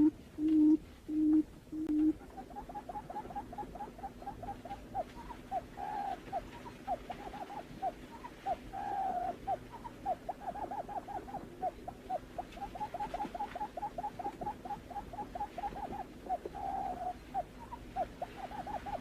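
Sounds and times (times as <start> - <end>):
bird hooting notes: 0.0 - 19.0
faint steady hum: 0.0 - 19.0.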